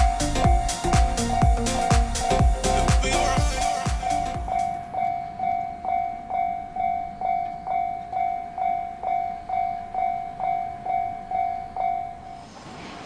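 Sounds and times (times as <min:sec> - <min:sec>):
level crossing bell ringing: 0:00.0 - 0:12.4.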